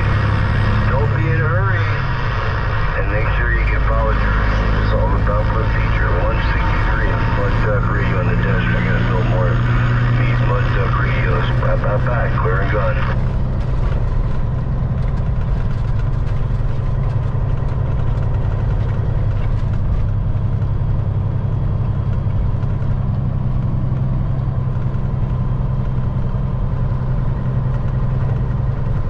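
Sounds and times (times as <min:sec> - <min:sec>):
truck diesel engine drone: 0:00.0 - 0:29.0.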